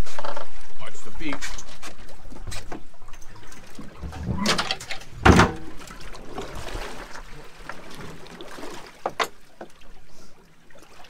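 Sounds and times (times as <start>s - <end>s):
water sloshing against boat hull: 0.0s - 11.0s.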